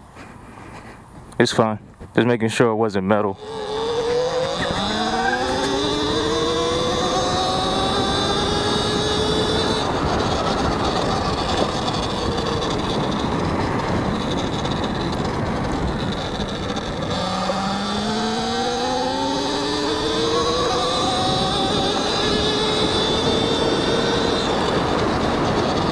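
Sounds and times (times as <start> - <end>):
electric motor whining: 3.2 - 25.9
wind rushing: 3.4 - 25.9.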